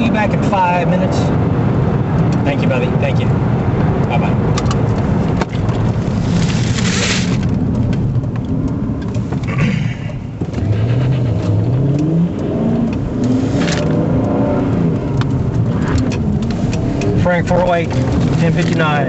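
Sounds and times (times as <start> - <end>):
car engine accelerating: 0.0 - 19.0
road noise: 0.0 - 19.0.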